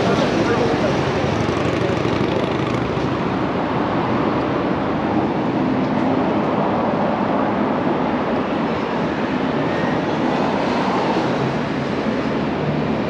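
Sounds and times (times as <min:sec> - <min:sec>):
city street ambience: 0:00.0 - 0:13.0.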